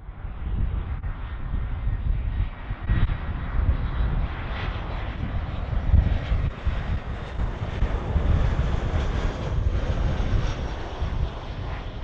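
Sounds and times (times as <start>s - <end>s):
airliner engines running: 0.0s - 12.0s.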